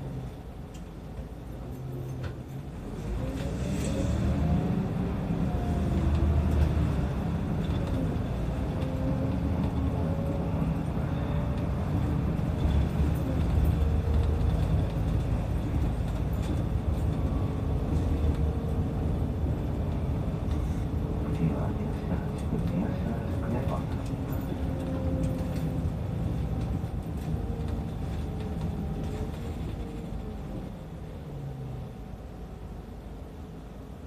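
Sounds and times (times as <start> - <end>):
bus engine rumble with whine: 0.0 - 34.0.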